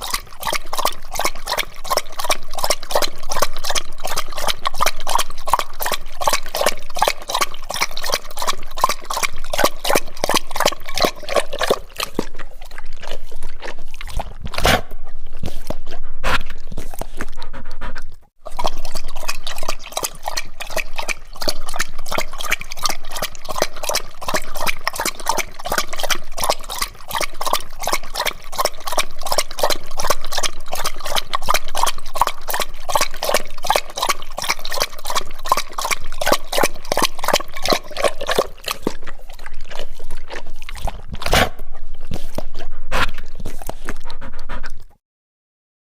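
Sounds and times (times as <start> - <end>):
dog lapping water: 0.0 - 45.0.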